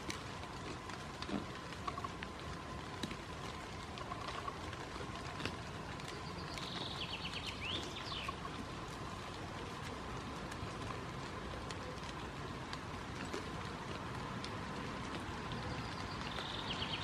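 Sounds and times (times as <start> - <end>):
faint ticks: 0.0 - 17.0
steady outdoor hiss: 0.0 - 17.0.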